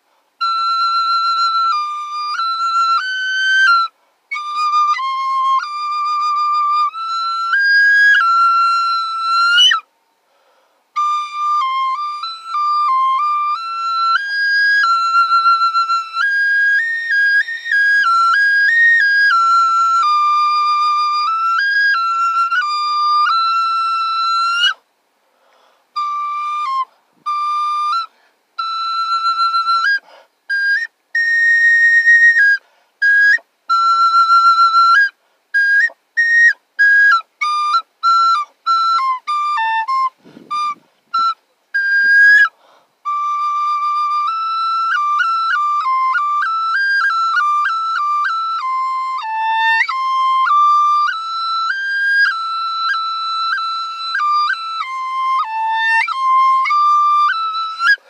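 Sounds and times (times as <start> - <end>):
small flute playing high melody: 0.4 - 9.9, 10.9 - 24.8, 25.9 - 58.0.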